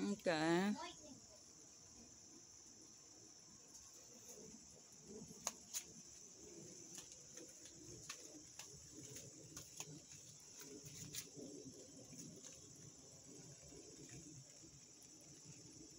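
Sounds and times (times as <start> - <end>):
steady high hiss: 0.0 - 15.9.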